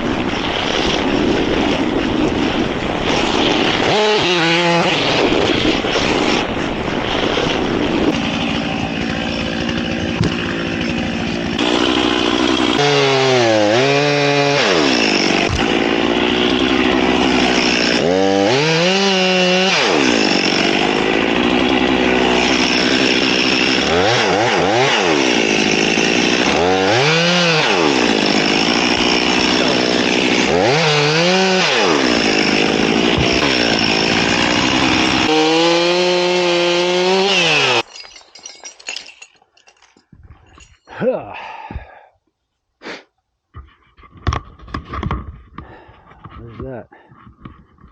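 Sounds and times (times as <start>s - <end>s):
chainsaw cutting wood: 0.0s - 39.2s.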